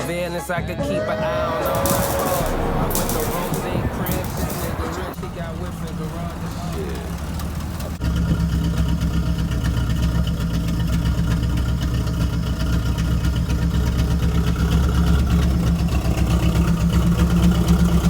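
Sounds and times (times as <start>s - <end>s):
car engine idling: 0.9s - 18.0s.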